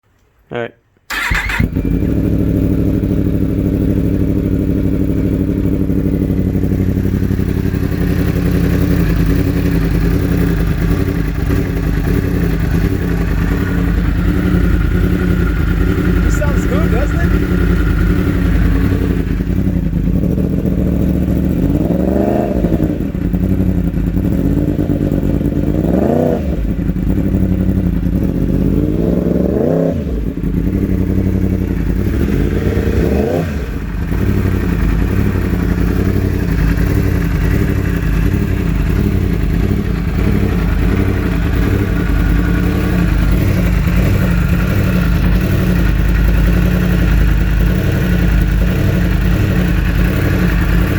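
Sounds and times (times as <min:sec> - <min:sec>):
motorcycle engine idling: 0:01.1 - 0:50.9.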